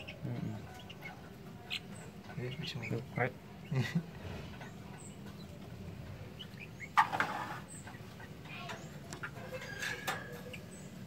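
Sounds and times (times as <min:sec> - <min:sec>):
bird chick squawking and chirping: 0:00.0 - 0:05.6, 0:06.2 - 0:11.0.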